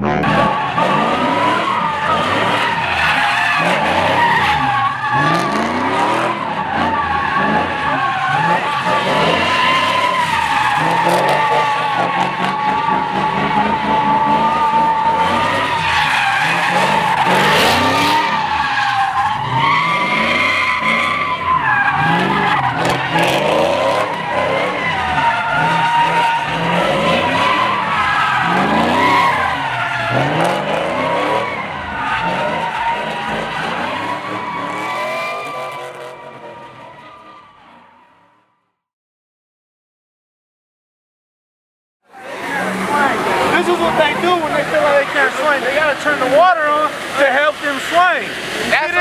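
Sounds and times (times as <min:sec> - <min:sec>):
car engine revving: 0:00.0 - 0:37.0, 0:42.1 - 0:49.0
car tires squealing: 0:00.0 - 0:38.2, 0:42.1 - 0:49.0.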